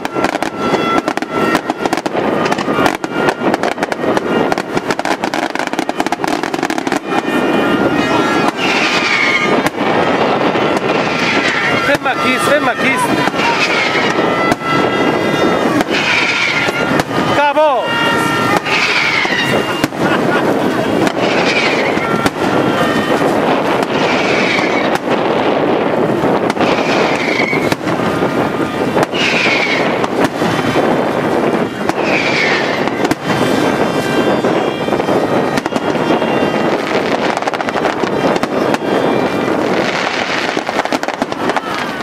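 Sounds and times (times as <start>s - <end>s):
fireworks bangs and crackle: 0.0s - 42.0s.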